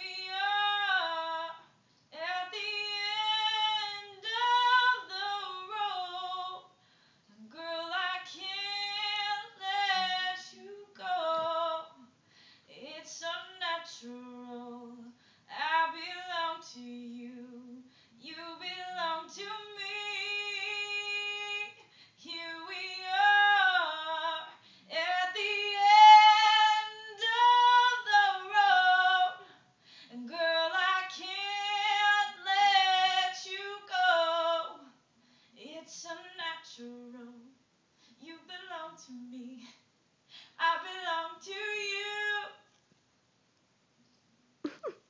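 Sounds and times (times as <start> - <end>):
woman singing unaccompanied: 0.0 - 6.7, 7.4 - 12.1, 12.7 - 35.0, 35.6 - 37.6, 38.2 - 39.8, 40.6 - 42.6.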